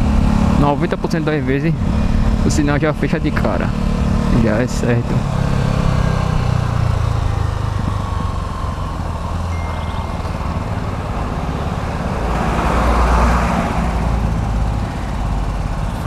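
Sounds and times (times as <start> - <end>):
road traffic noise: 0.0 - 16.0
vehicle engine running: 0.0 - 16.0.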